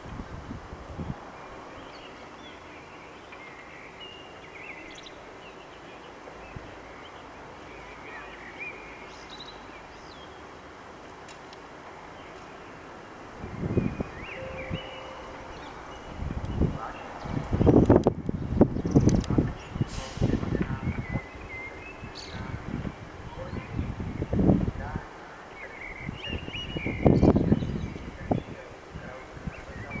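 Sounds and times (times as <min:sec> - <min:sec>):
small birds chirping: 0:01.0 - 0:30.0.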